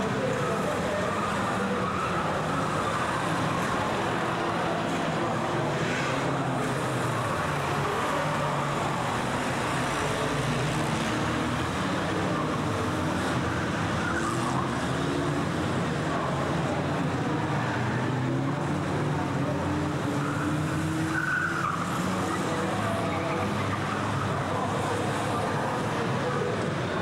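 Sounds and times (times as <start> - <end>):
racing car engines: 0.0 - 27.0.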